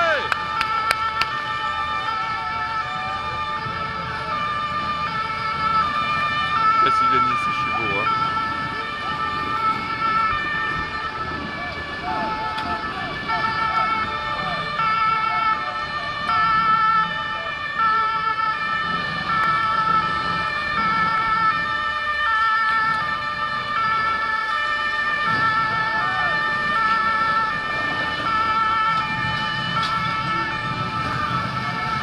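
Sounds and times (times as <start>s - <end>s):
two-tone siren: 0.0s - 32.0s.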